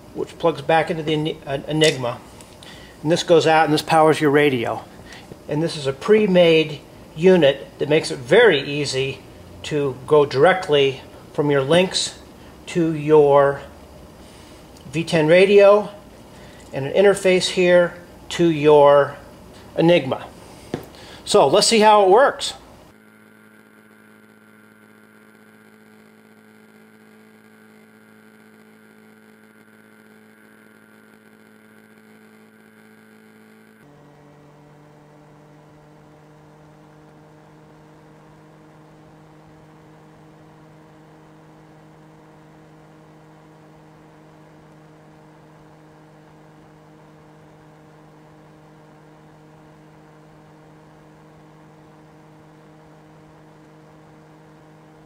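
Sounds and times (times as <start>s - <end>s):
faint steady tonal hum: 0.0s - 55.0s.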